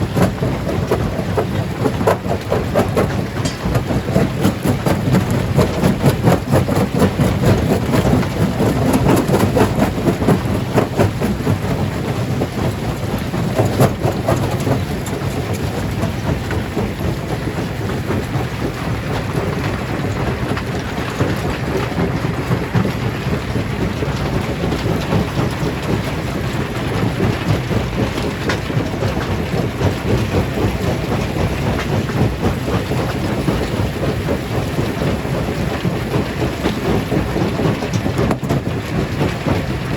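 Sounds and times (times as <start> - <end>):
rock crusher rumbling: 0.0 - 39.9.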